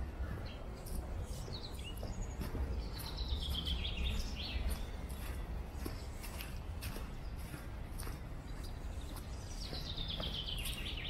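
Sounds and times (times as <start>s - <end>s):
footsteps on dry leaves: 0.0s - 11.0s.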